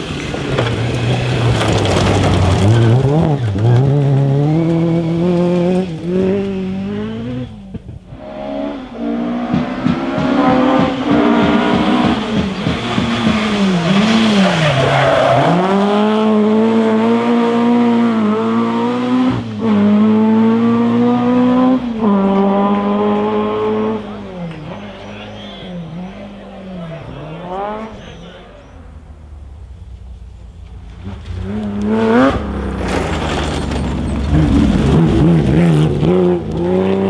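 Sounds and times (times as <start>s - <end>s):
rally car engine accelerating: 0.0s - 37.0s.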